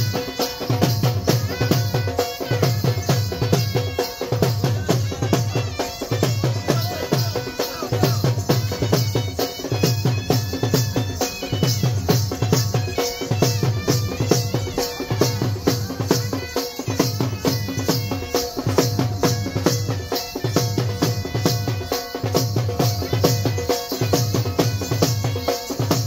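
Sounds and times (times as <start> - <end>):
fast drumming: 0.0 - 26.0
rattling percussion: 0.0 - 26.0
held pitched tone: 0.1 - 21.4.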